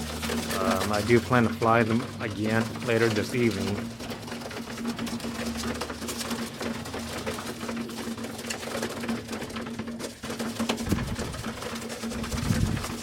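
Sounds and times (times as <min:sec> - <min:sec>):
pigeons pecking at grain: 0:00.0 - 0:13.0.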